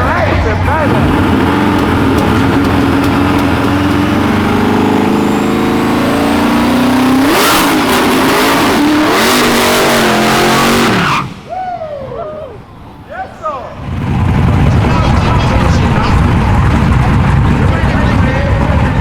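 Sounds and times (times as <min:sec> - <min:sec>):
drag car engine at full throttle: 0:00.0 - 0:11.5, 0:13.8 - 0:19.0.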